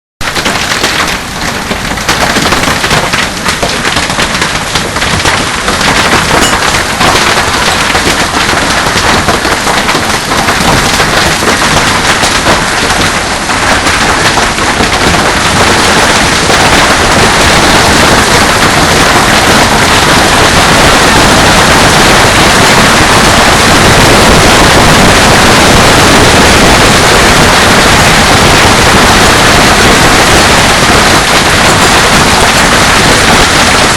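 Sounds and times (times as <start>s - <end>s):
hail clattering on hard surfaces: 0.2s - 33.9s.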